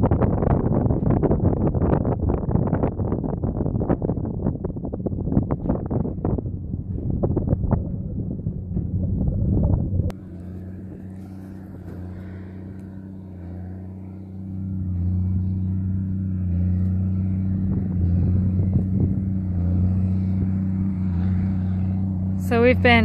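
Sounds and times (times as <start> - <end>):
tractor engine droning: 0.0 - 23.0
wind buffeting microphone: 0.0 - 23.0.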